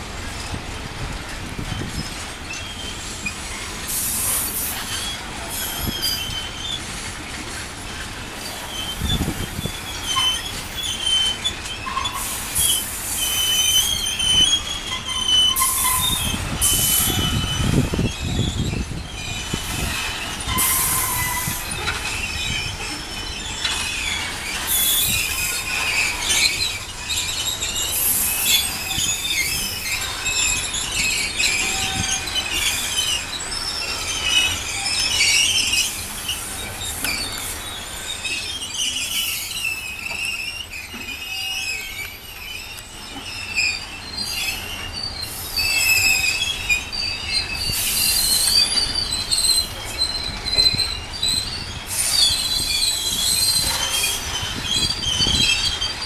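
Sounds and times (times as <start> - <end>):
freight train rolling past: 0.0 - 56.0
steel wheels squealing on rails: 0.0 - 56.0.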